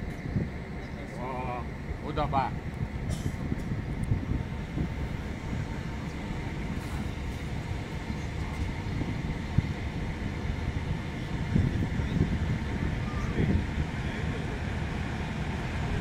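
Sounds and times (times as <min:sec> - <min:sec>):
diesel locomotive engine: 0:00.0 - 0:16.0.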